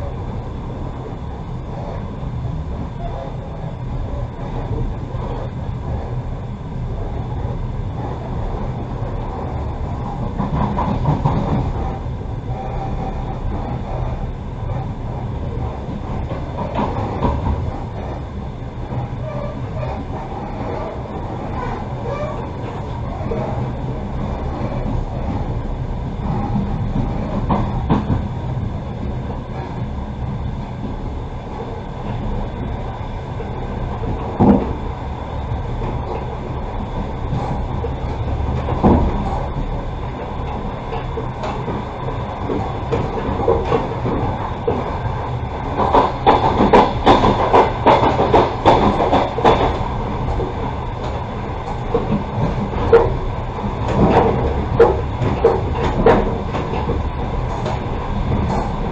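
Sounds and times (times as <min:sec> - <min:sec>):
train coach rumble: 0:00.0 - 0:58.9
train wheel clicks and clatter: 0:06.9 - 0:58.9.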